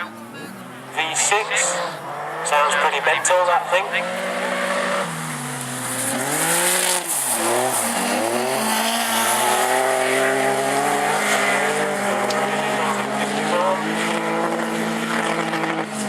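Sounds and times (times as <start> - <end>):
racing engine at full revs: 0.0 - 16.0.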